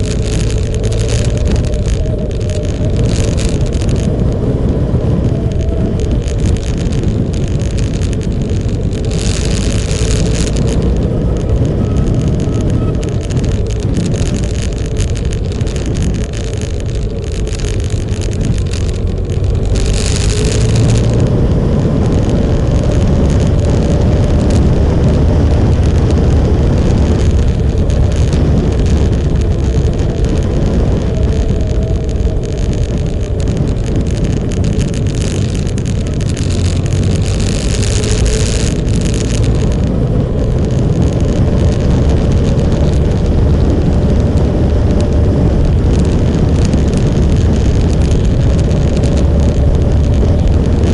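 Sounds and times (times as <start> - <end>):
motorcycle engine running: 0.0 - 50.9
wind rumble on microphone: 0.0 - 50.9.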